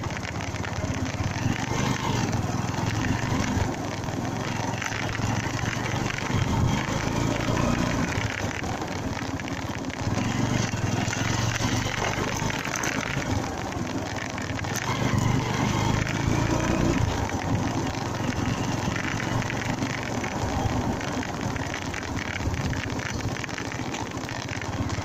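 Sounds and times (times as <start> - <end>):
motorcycle engine running: 0.0 - 25.0
road noise rush: 0.0 - 25.0.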